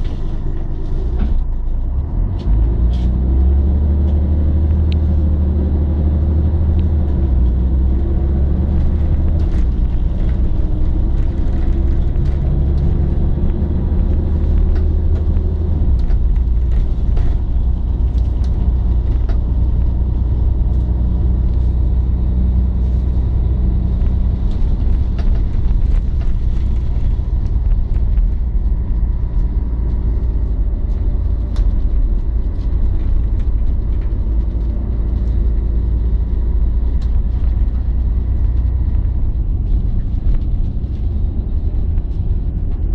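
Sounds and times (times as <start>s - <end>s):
diesel bus engine rumbling: 0.0s - 42.9s.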